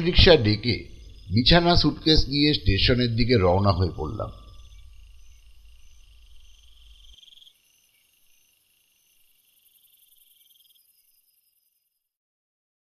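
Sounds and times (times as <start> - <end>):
crickets chirping: 0.0 - 12.1.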